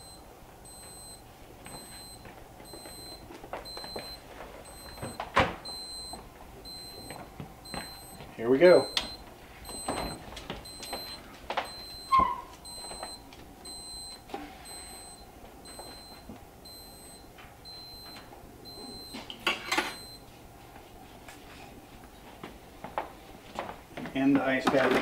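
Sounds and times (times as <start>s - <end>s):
thermometer alarm beeping: 0.0s - 20.2s.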